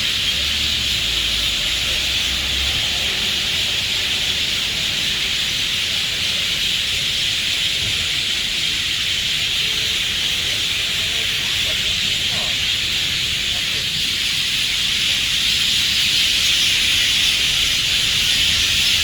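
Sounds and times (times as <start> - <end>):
high-pitched hissing wildlife chorus: 0.0 - 19.0.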